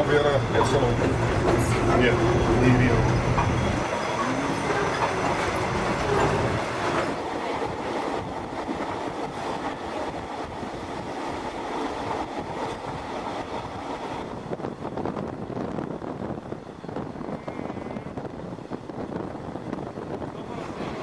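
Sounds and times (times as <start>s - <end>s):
train running noise: 0.0s - 21.0s
train wheels rumbling on rails: 0.0s - 21.0s.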